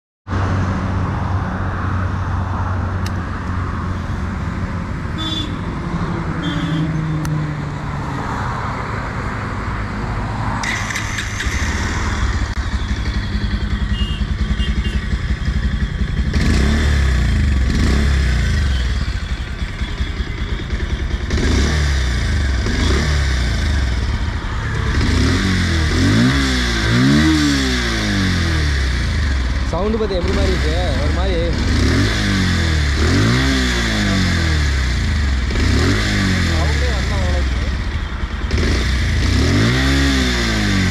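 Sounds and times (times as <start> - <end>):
motorcycle engine idling and revving: 0.3 - 40.9.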